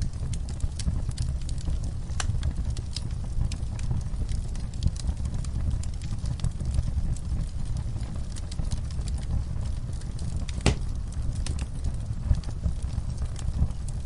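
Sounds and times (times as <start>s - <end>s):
low rumble of burning: 0.0s - 14.0s
wood fire crackling and popping: 0.0s - 14.0s.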